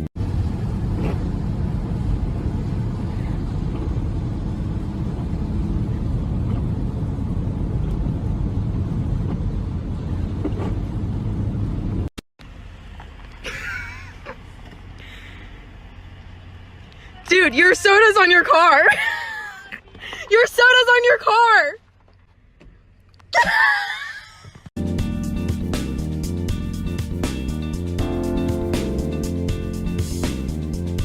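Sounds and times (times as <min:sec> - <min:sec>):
car driving rumble: 0:00.0 - 0:31.0.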